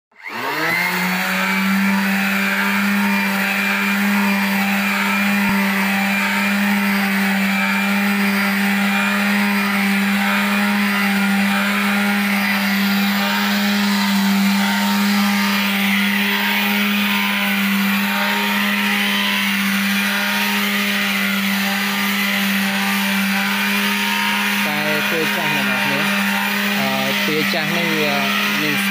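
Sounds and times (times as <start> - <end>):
palm sander on wood: 0.2 - 28.9.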